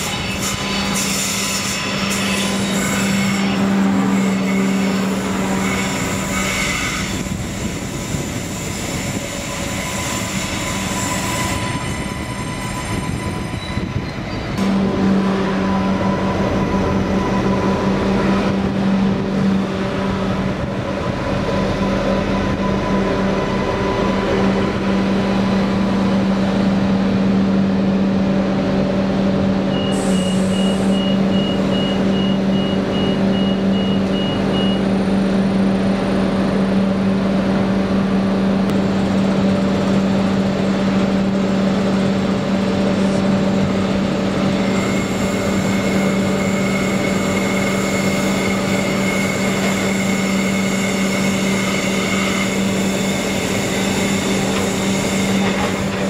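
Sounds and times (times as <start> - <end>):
railcar low hum: 0.0 - 56.0
train running noise: 0.0 - 56.0.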